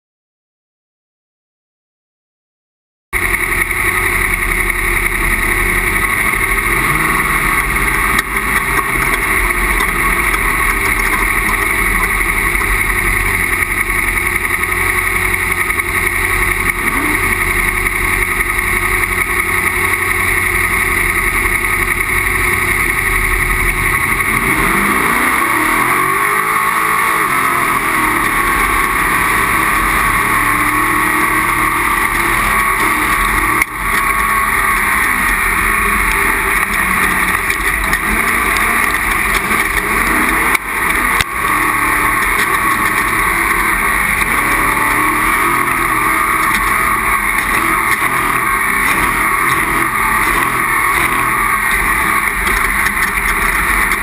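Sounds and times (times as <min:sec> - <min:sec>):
race vehicle engine running: 0:03.2 - 0:54.0.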